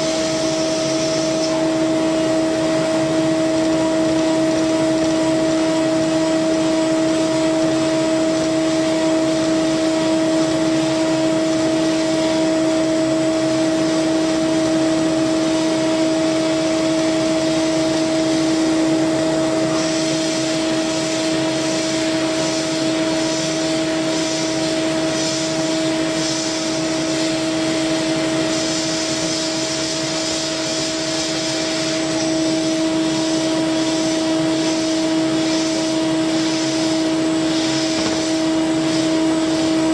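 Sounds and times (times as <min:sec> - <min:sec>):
milling machine spindle whine: 0:00.0 - 0:39.9
tool cutting metal hiss: 0:00.0 - 0:39.9.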